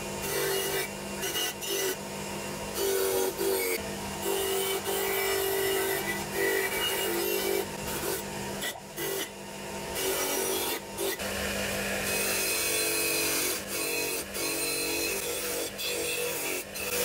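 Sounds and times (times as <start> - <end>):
grinder motor humming: 0.0 - 17.0.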